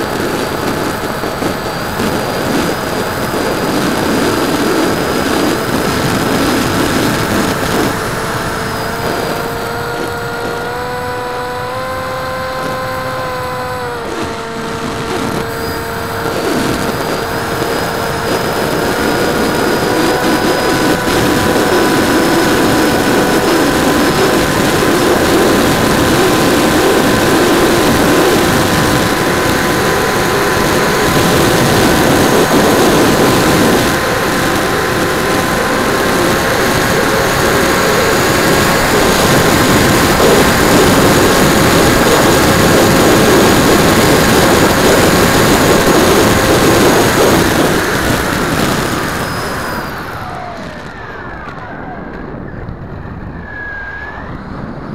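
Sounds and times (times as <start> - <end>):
model plane motor whining: 0.0 - 54.8
wind rushing over microphone: 0.0 - 54.9.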